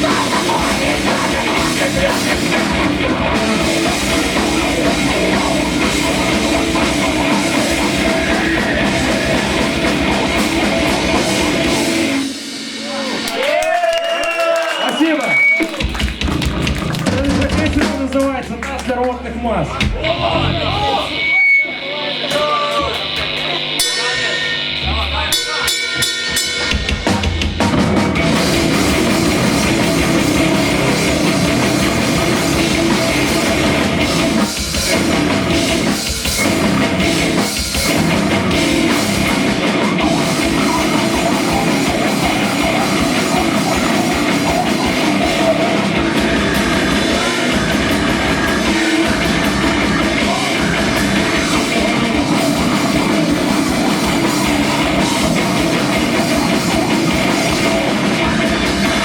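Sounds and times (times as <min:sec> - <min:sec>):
live rock band playing: 0:00.0 - 0:13.7, 0:15.3 - 0:18.6, 0:22.9 - 0:59.0
drum kit: 0:00.0 - 0:18.6, 0:22.3 - 0:59.0.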